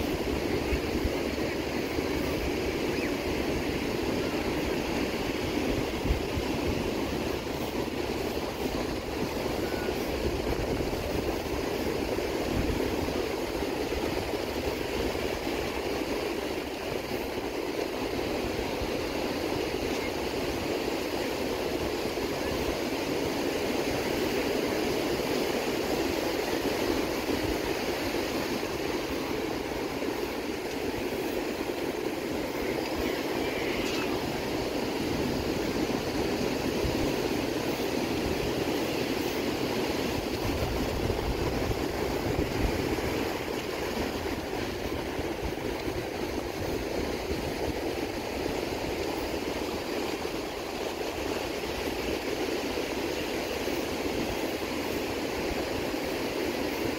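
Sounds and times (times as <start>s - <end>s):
ocean surf breaking on beach: 0.0s - 56.9s.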